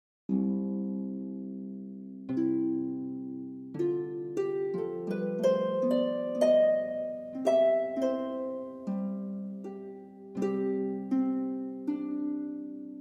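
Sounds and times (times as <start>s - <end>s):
harp music: 0.3s - 13.0s.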